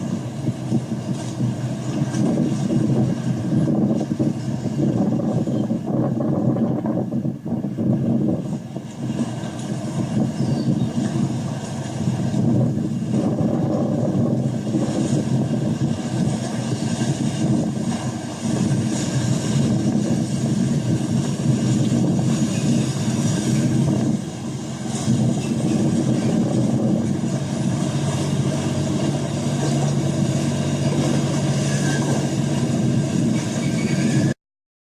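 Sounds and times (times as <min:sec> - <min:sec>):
boat engine humming: 0:00.0 - 0:34.4
water noise: 0:00.0 - 0:34.4
wind: 0:00.0 - 0:34.4.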